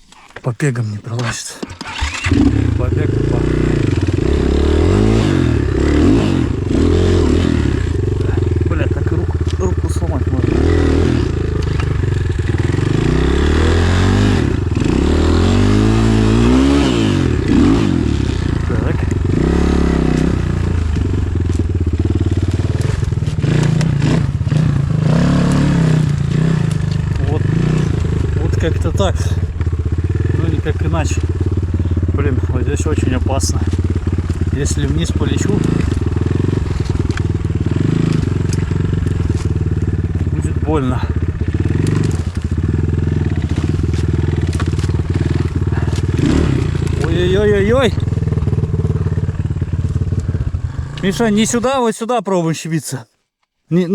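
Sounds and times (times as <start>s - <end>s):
dirt bike engine revving: 1.2s - 51.7s.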